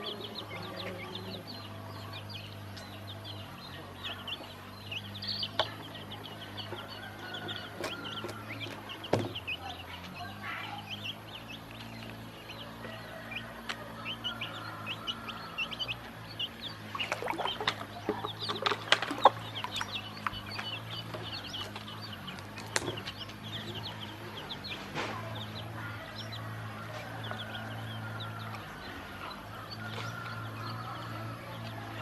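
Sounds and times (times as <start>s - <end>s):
ducklings peeping: 0.0s - 32.0s.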